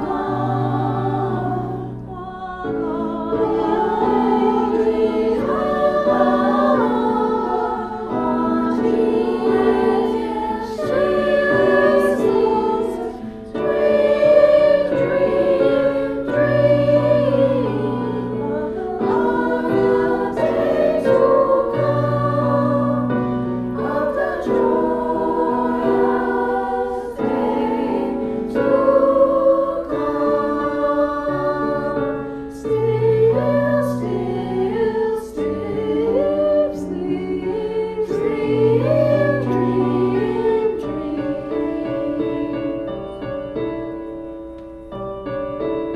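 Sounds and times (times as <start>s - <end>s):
choir singing in harmony: 0.0s - 45.9s.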